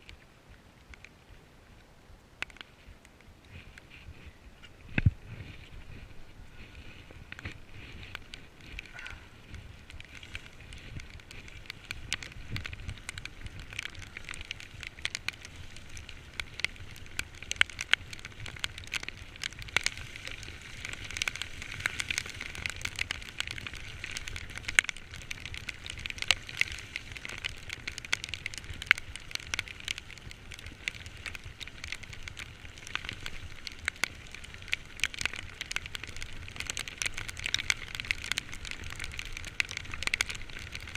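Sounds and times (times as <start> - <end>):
raindrops tapping on microphone: 0.0 - 40.9.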